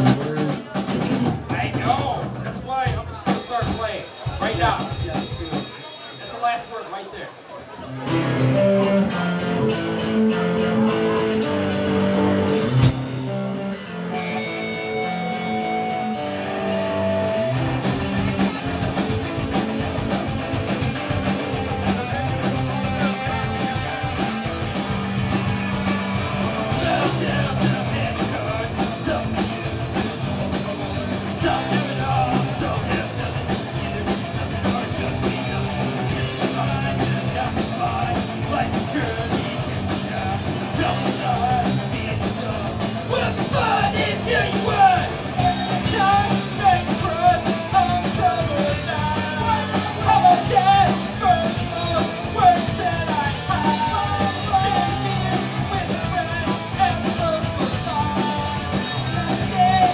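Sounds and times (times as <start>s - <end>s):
punk rock band playing live: 0.0s - 59.9s.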